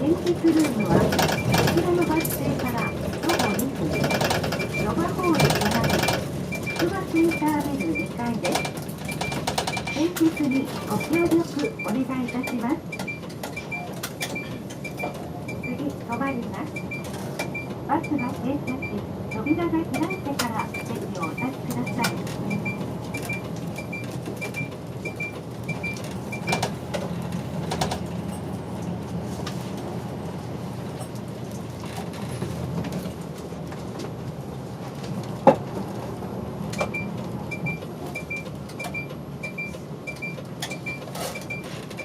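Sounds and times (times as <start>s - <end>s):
bus engine humming: 0.0s - 42.0s.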